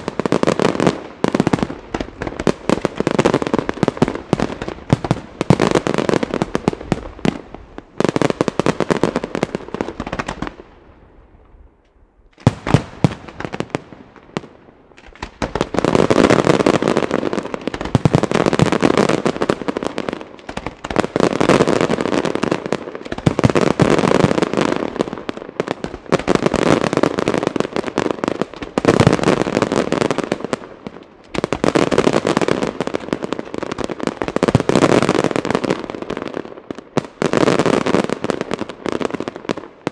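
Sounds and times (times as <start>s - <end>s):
fireworks bangs: 0.0s - 10.6s, 12.4s - 39.9s.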